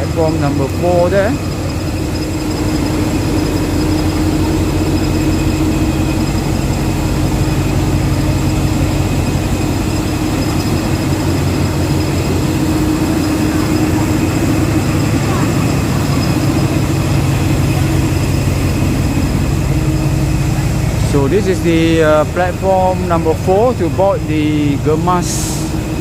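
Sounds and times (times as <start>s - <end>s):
heavy engine idling: 0.0s - 26.0s
high whine: 0.0s - 26.0s.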